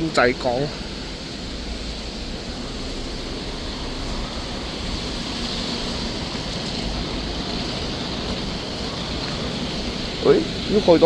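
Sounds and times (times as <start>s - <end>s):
street traffic rushing: 0.0s - 11.0s.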